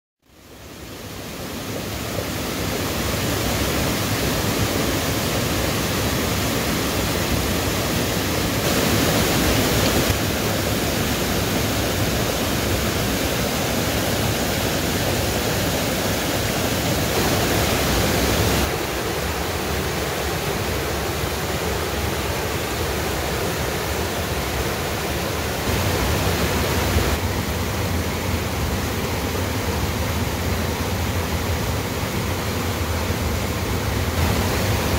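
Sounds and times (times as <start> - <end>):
water rushing over cascades: 0.2 - 34.9.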